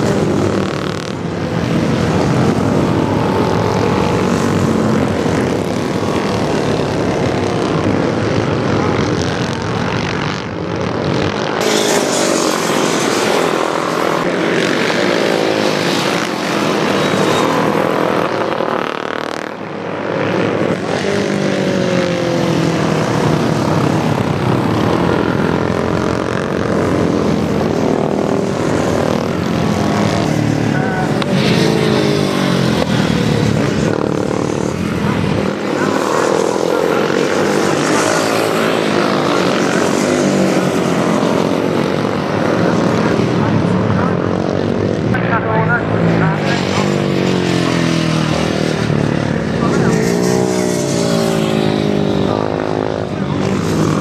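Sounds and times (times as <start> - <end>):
racing motorcycles passing: 0.0 - 54.0.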